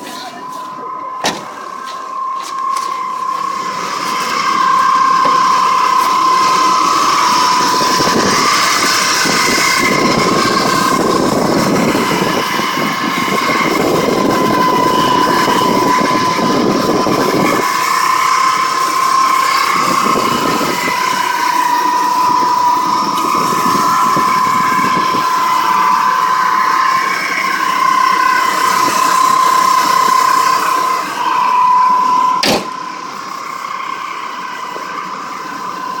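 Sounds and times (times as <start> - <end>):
high-pitched whine: 0.0 - 36.0.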